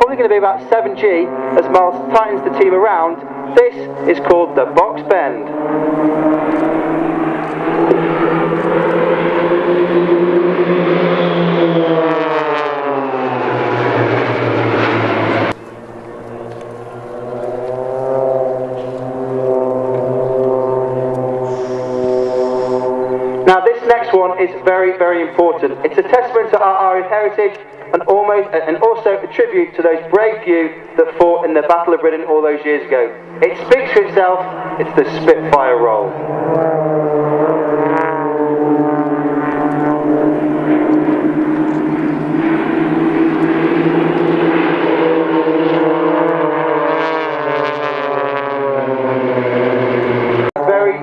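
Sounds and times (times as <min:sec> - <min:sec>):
propeller aircraft drone: 0:00.0 - 0:51.0.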